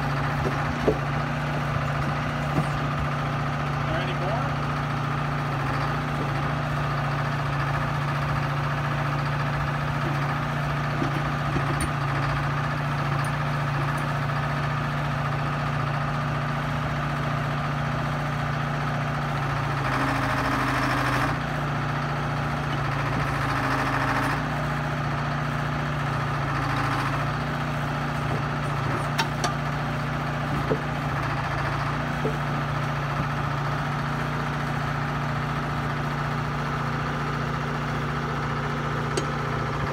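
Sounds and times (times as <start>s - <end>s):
excavator engine idling: 0.0s - 39.9s.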